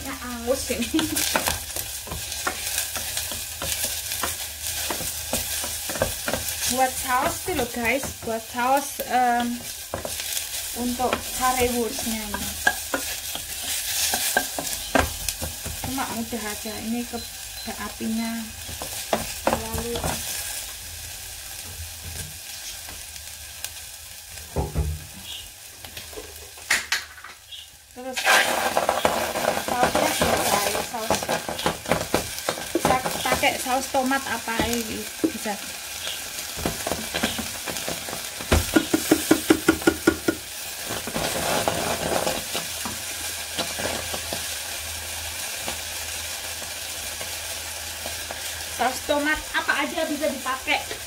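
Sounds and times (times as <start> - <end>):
oil sizzling in a saucepan: 0.0 - 51.0.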